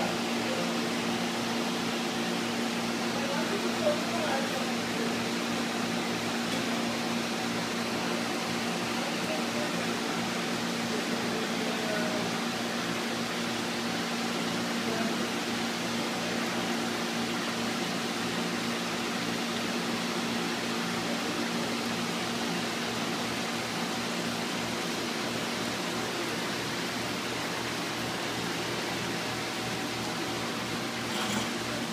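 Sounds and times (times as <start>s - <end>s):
machinery hum and hiss: 0.0s - 31.9s.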